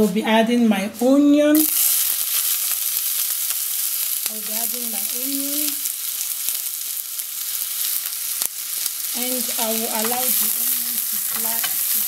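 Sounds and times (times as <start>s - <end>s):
onion sizzling in frying pan: 1.0s - 12.0s.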